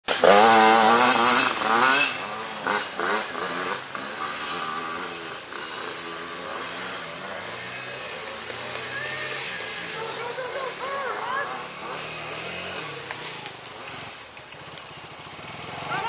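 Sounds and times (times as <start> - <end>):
dirt bike engine revving: 0.0 - 16.0
distant dirt bikes buzzing: 0.0 - 16.0.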